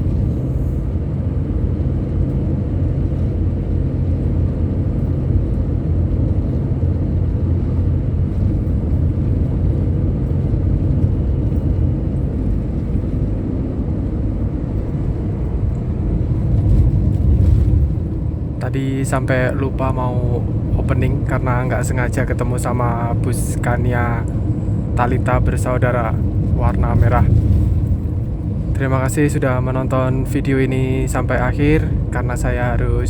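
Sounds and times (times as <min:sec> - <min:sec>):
road noise: 0:00.0 - 0:33.0
vehicle engine rumble: 0:00.0 - 0:33.0.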